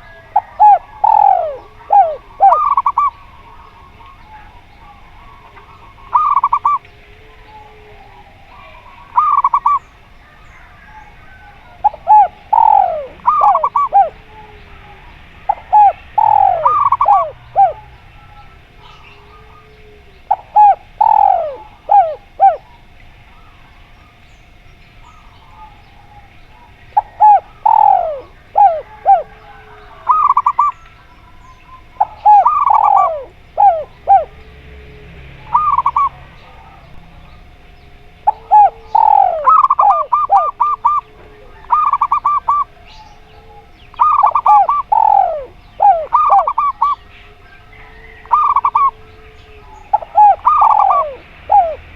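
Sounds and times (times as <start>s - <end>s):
doves cooing: 0.0s - 51.9s.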